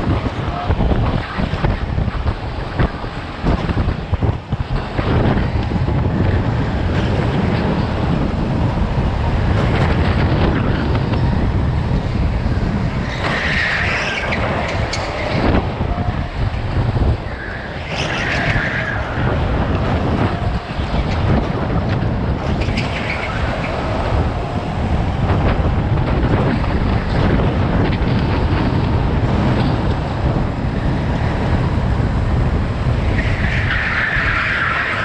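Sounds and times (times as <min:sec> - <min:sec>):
go-kart engine rumbling: 0:00.0 - 0:35.0
wind buffeting microphone: 0:00.0 - 0:35.0.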